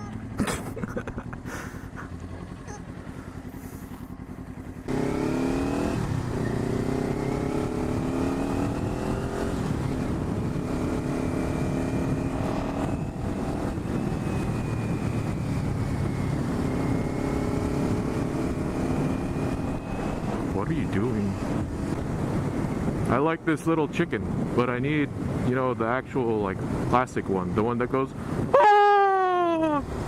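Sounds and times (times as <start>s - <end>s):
motorcycle engine accelerating: 0.0s - 25.5s.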